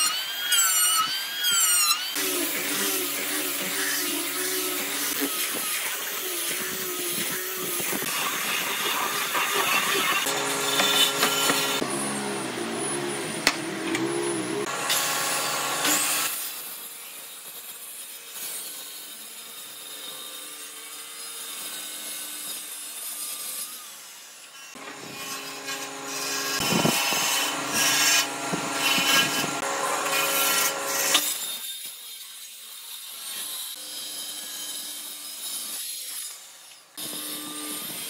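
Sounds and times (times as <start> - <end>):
power tool working wood: 0.0 - 38.0.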